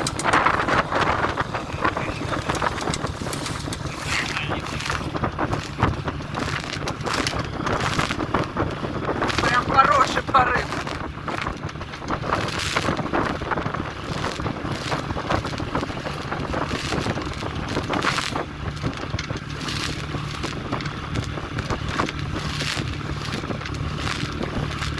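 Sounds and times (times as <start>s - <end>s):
outboard motor running: 0.0s - 24.9s
wind buffeting microphone: 0.0s - 24.9s.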